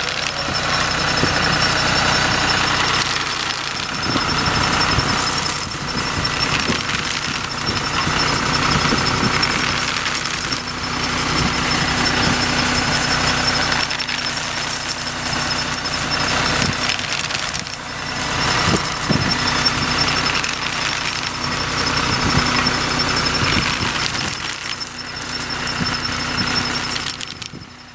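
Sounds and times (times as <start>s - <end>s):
rubber flails whirring: 0.0s - 27.9s
thin high whine: 0.0s - 27.9s
tractor engine running: 0.0s - 27.9s.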